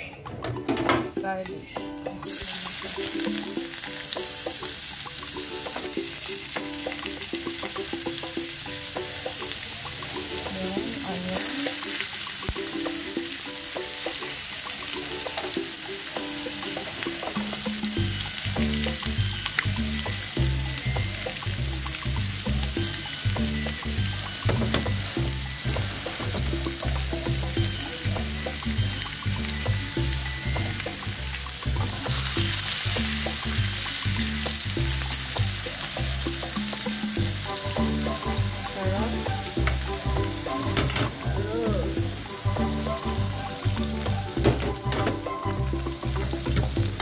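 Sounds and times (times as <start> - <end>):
background music with bass: 0.0 - 47.0
garlic and onion sizzling in fat: 2.2 - 47.0.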